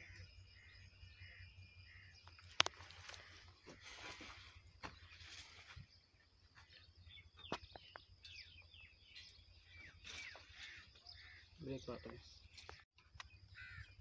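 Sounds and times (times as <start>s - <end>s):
faint rural ambience: 0.0s - 14.0s
falling bird chirps: 0.0s - 14.0s.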